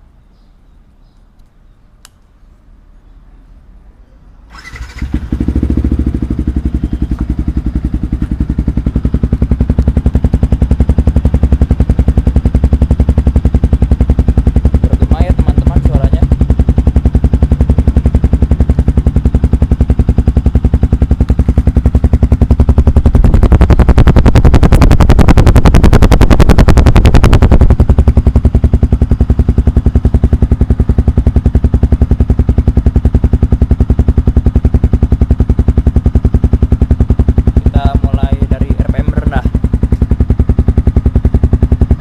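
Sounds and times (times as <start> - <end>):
motorcycle engine idling and revving: 2.8 - 42.0.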